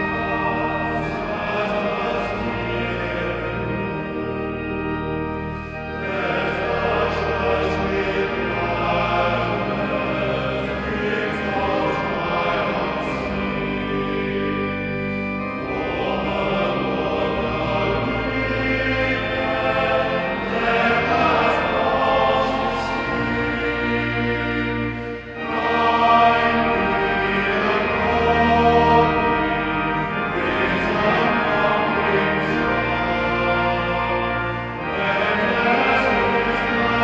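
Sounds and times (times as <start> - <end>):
choir singing sustained chords: 0.0 - 37.0.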